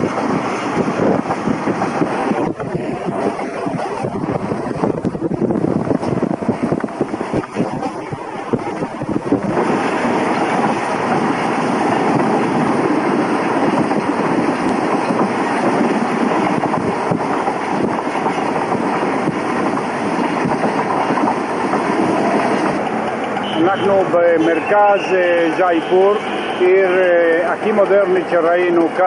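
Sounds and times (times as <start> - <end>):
air noise: 0.0 - 29.0
train wheels rumbling on rails: 0.0 - 29.0.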